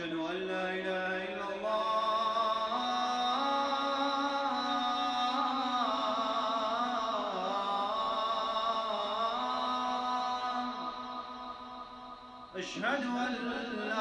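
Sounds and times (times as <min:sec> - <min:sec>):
man chanting call to prayer: 0:00.0 - 0:14.0.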